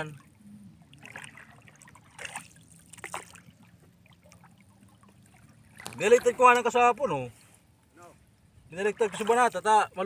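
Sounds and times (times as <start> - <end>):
water lapping around boat: 0.0 - 10.0.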